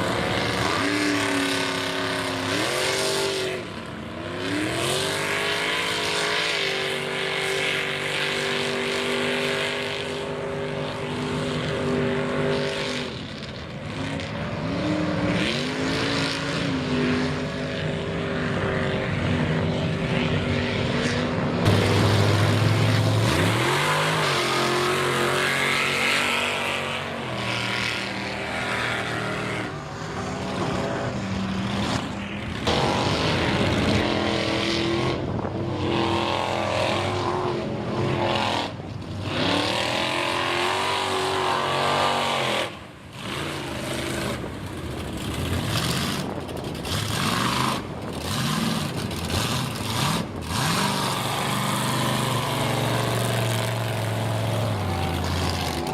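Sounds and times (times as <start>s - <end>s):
mud truck engines revving: 0.0s - 55.9s.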